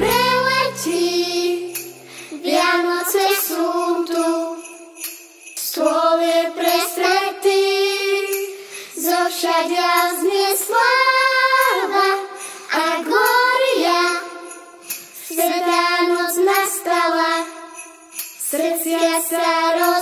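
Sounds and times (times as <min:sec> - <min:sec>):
children's choir singing: 0:00.0 - 0:04.8, 0:05.6 - 0:14.6, 0:15.2 - 0:17.8, 0:18.4 - 0:20.0
sleigh bells jingling: 0:00.0 - 0:20.0.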